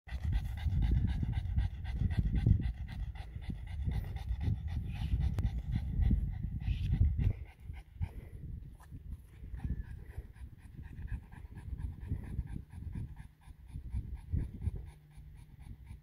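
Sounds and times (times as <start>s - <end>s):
dog panting rapidly: 0.1s - 16.0s.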